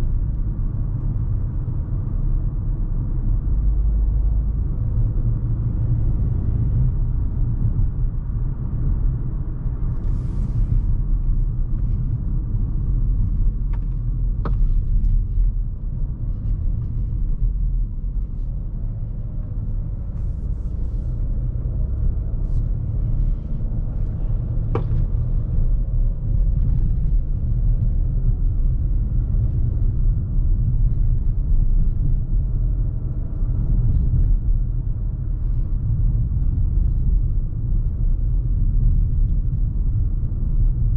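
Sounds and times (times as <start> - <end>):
car engine running: 0.0 - 40.9
car tyre and road noise: 0.0 - 40.9.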